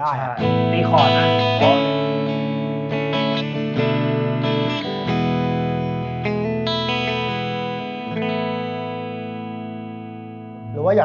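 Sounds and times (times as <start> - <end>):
electric guitar chords ringing: 0.0 - 11.0.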